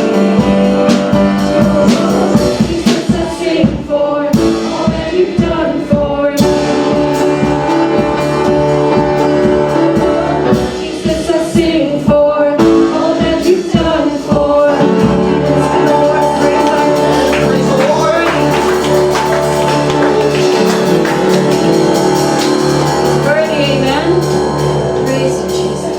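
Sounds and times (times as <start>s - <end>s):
band with steady drum beat: 0.0s - 25.9s
voices singing gospel song: 0.0s - 25.9s.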